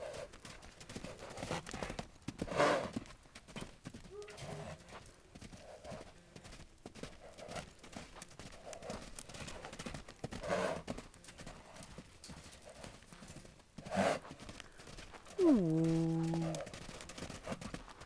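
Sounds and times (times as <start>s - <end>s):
hoofbeats on sand: 0.0s - 18.0s.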